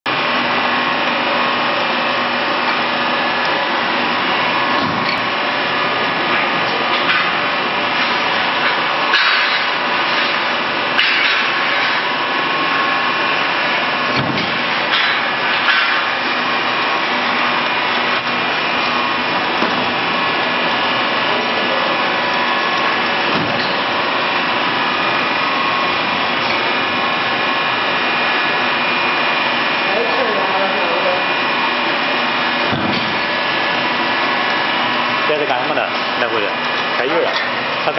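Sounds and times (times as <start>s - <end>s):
woodworking machine humming: 0.1s - 37.9s.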